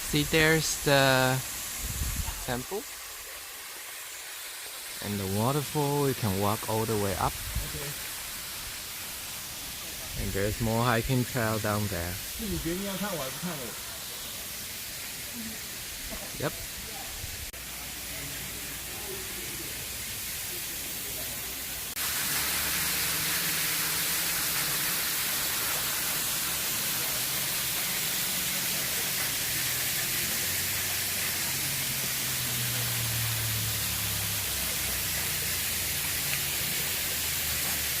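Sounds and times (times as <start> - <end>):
waterfall rushing: 0.0 - 17.0, 17.6 - 38.0.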